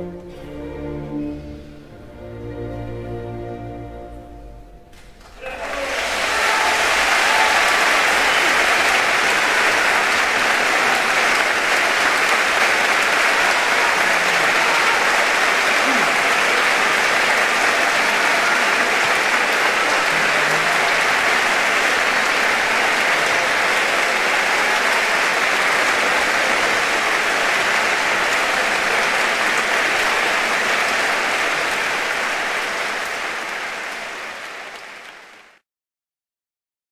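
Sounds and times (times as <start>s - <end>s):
audience applauding: 5.2s - 35.6s.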